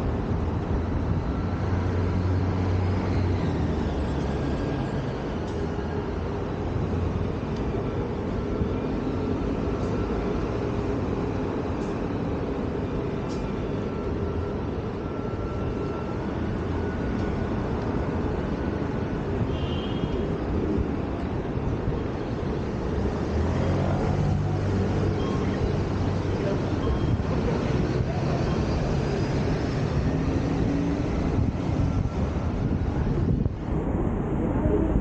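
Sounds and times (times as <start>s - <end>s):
traffic rumble: 0.0s - 35.0s.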